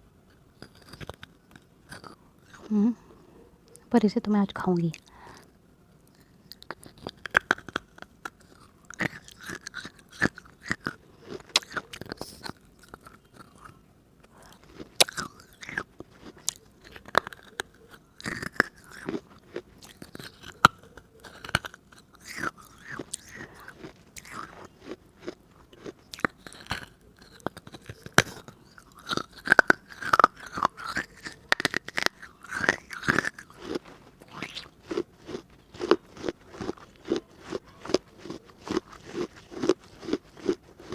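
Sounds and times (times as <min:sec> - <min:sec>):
soft chewing: 0:00.2 - 0:03.9, 0:04.8 - 0:40.9
clay lamp crunching in mouth: 0:00.3 - 0:02.8, 0:05.0 - 0:40.9.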